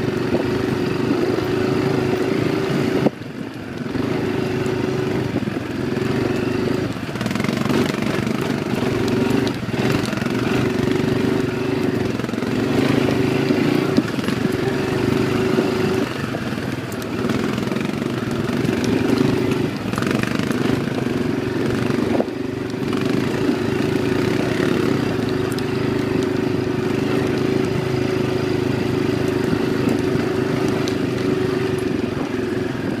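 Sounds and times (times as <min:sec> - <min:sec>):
atv engine running: 0:00.0 - 0:33.0.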